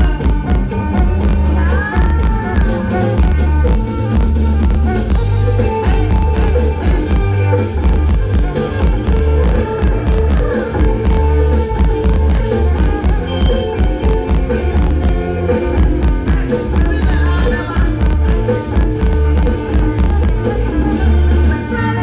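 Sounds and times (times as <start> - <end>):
amplified band music with bass beat: 0.0 - 22.0.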